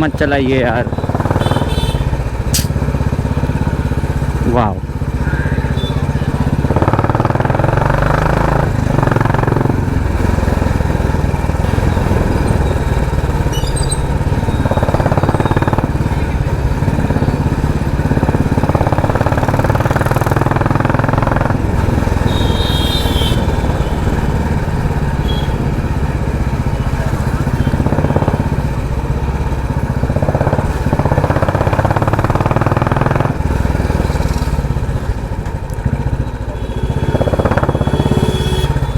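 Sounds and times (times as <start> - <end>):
motorcycle engine loud exhaust: 0.0 - 38.9.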